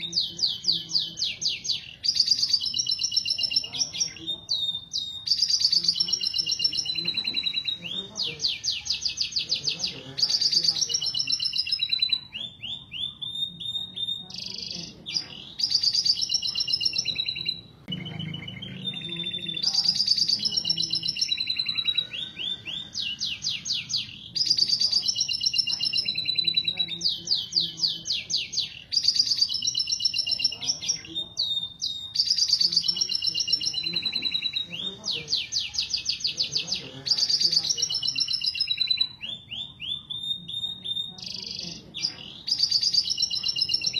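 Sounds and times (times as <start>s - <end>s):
female canary calling: 0.0s - 43.9s.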